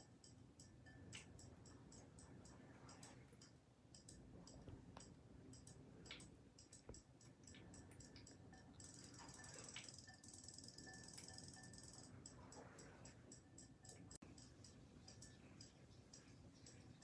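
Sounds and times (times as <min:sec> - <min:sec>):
toy fish ticking clicks: 0:00.0 - 0:17.0.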